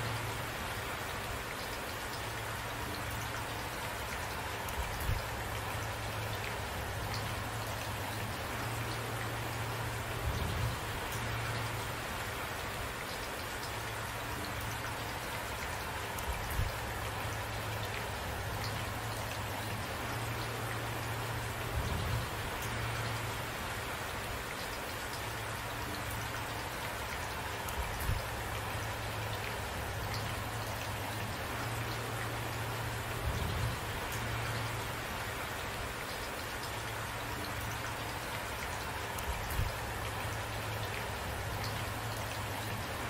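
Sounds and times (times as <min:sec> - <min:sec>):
rain pattering on a surface: 0:00.0 - 0:43.0.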